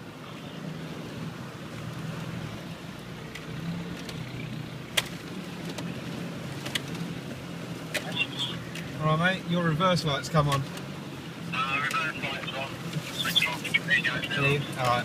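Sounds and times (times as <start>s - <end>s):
vehicle engine running at low revs: 0.0s - 15.0s.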